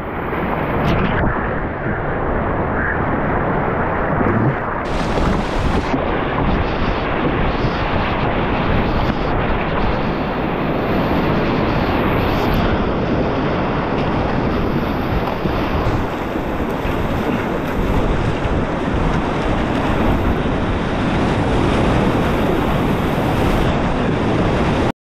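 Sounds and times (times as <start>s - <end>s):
whitewater roaring: 0.0s - 24.9s.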